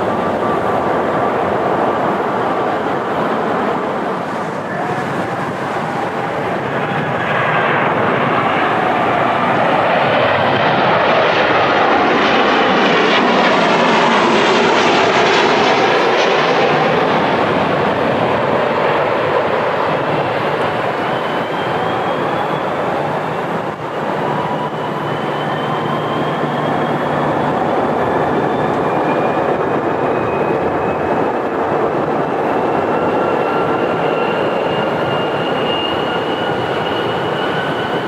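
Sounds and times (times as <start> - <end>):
jet engine whine: 0.0 - 38.0
jet engines roaring past: 0.0 - 38.0.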